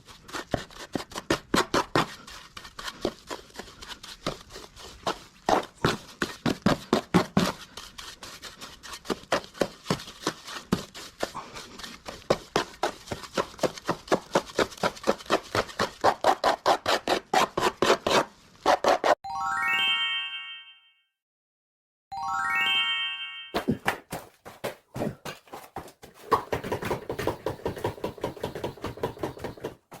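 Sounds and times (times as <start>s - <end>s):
hand tool scraping hard surface: 0.0s - 19.2s, 23.6s - 30.0s.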